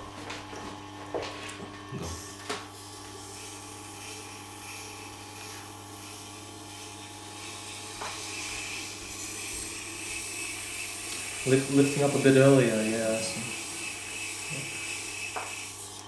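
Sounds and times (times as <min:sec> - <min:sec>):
sharpening machine motor hum: 0:00.0 - 0:16.0
knife grinding on wheel: 0:02.2 - 0:16.0.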